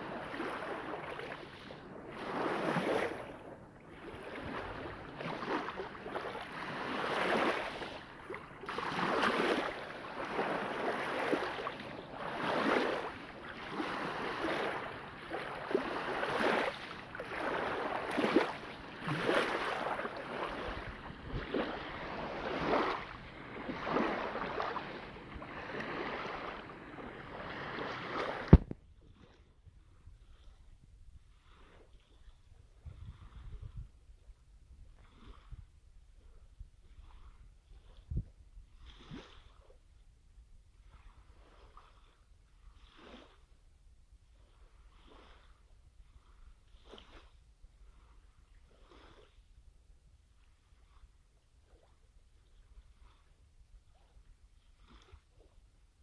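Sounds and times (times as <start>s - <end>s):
small waves lapping on shore: 0.0s - 56.0s.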